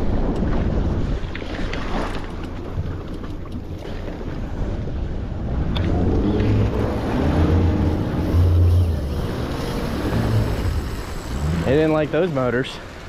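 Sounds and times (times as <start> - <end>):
outboard motors humming: 0.0 - 13.0
rushing water: 0.0 - 13.0
wind: 0.0 - 13.0.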